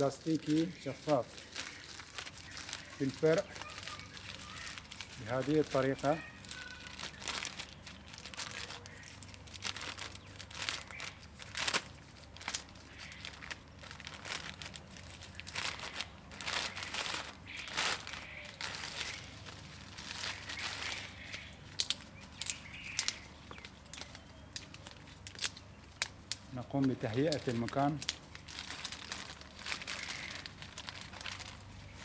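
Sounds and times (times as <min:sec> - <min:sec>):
leaves rustling: 0:00.0 - 0:32.0
plastic bag crinkling: 0:00.0 - 0:32.0.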